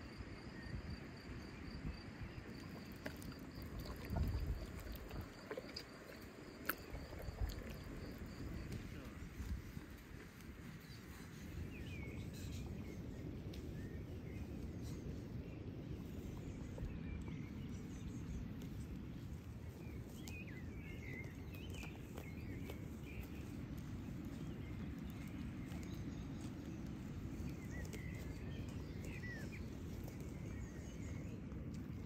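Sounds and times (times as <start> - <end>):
small birds chirping: 1.5 - 32.0.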